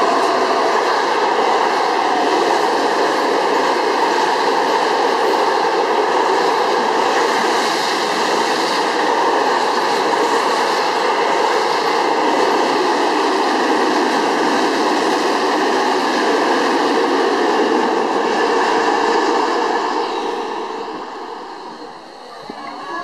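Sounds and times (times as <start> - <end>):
steel wheels running on rails: 0.0 - 23.0.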